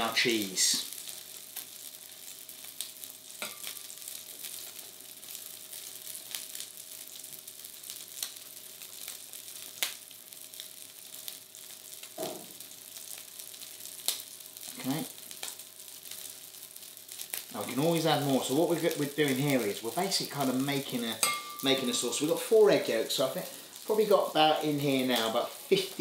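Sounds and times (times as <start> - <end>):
sausages and bacon sizzling: 0.0 - 26.0.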